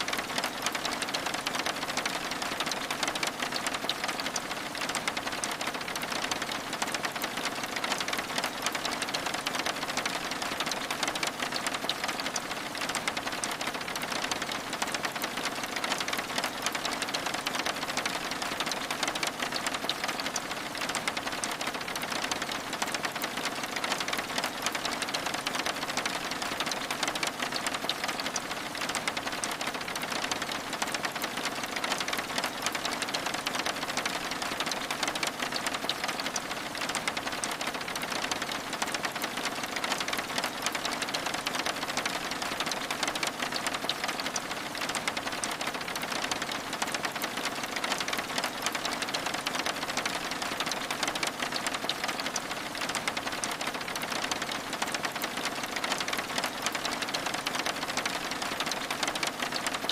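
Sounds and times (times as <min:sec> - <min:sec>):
rain on window glass: 0:00.0 - 0:59.9.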